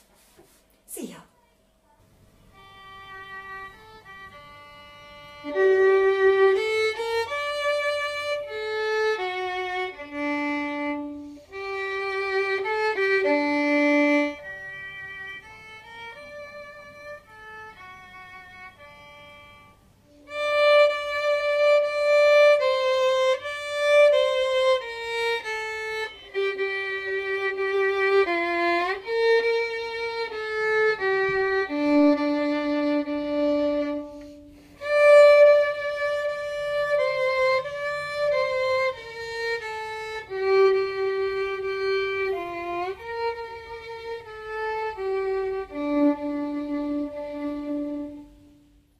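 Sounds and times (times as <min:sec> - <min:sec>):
solo violin melody: 0:02.5 - 0:48.9.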